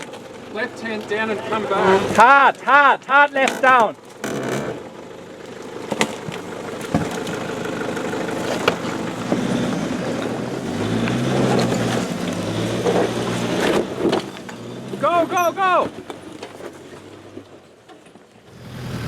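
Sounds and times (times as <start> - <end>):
off-road vehicle engine revving: 0.0 - 17.8, 18.4 - 19.0.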